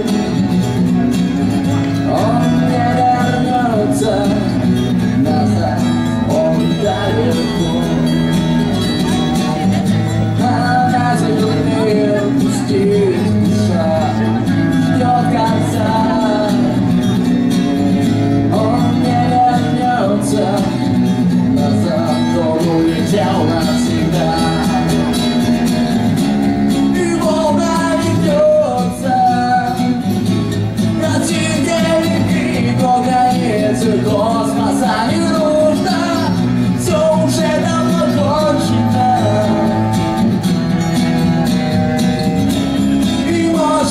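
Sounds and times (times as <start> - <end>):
indie rock band playing: 0.0 - 43.9.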